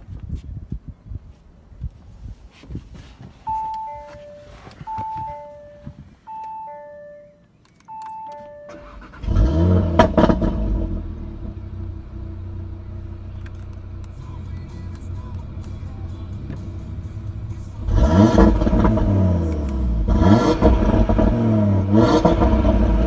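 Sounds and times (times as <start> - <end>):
car engine starting and idling: 3.4 - 23.0.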